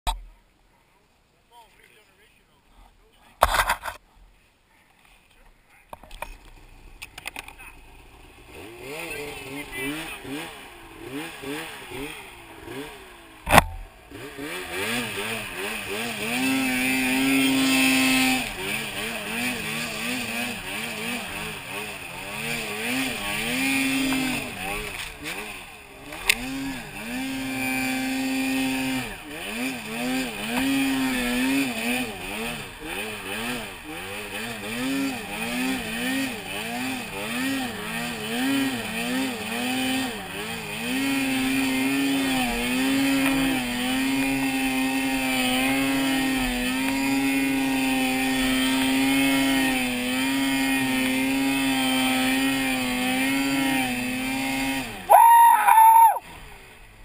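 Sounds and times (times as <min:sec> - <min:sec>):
snowmobile engine revving: 0:06.3 - 0:56.8.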